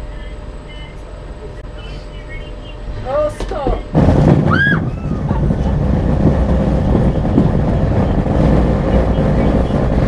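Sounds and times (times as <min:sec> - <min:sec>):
faint steady hum: 0:00.0 - 0:10.0
ride carriage rumble: 0:00.0 - 0:10.0.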